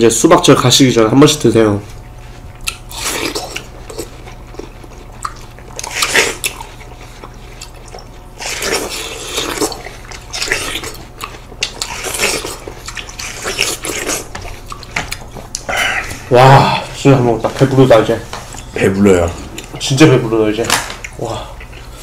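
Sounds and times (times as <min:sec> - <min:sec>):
people chewing watermelon: 0:00.7 - 0:22.0.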